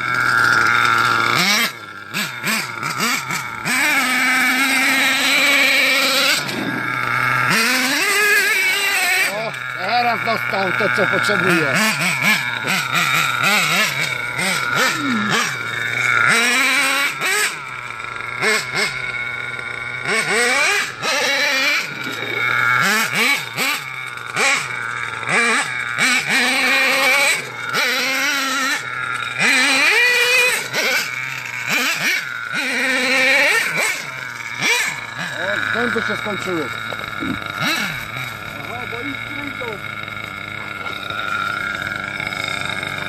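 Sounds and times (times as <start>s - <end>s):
small nitro engine revving: 0.0s - 43.0s.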